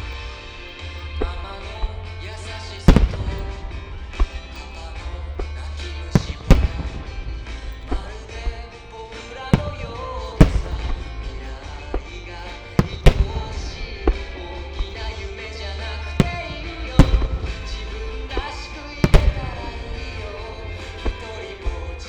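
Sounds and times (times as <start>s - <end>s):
firework shells bursting: 0.0s - 22.0s
music with a steady beat: 0.0s - 22.0s.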